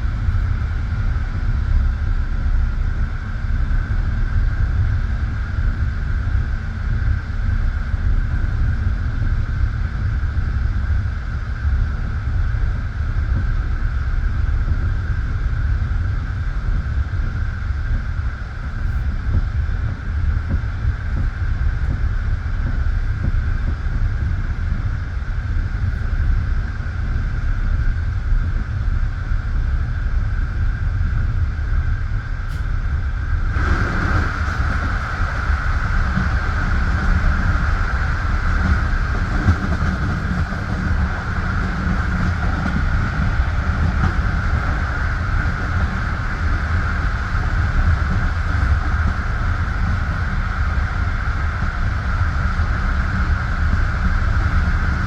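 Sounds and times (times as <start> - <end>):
high hum: 0.0 - 55.0
train wheels rumbling on rails: 0.0 - 55.0.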